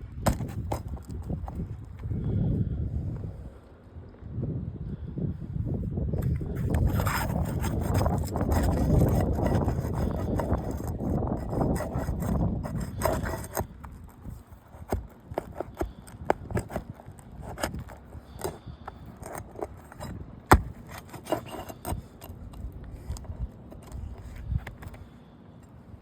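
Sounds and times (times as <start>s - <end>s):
hard objects clicking and scraping: 0.1s - 1.6s, 6.2s - 25.8s.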